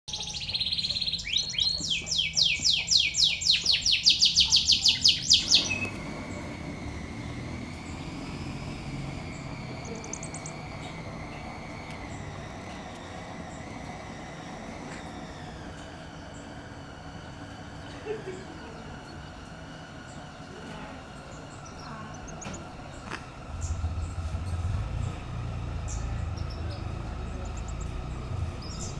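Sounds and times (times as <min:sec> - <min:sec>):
nestlings begging chirps: 0:00.1 - 0:28.9
steady background hum: 0:00.1 - 0:28.9.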